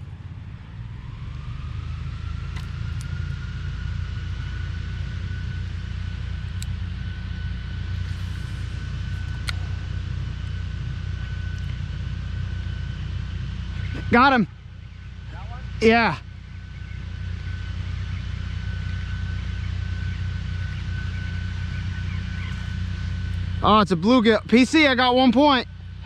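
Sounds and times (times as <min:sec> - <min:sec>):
motor running with whine: 0:00.0 - 0:26.0.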